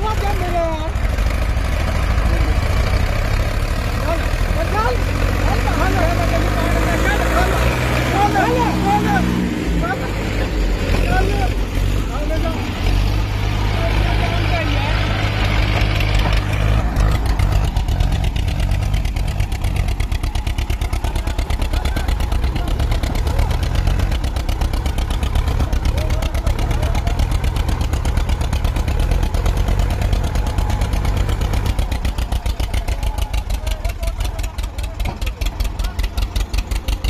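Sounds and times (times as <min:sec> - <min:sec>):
tractor diesel engines chugging: 0:00.0 - 0:37.0.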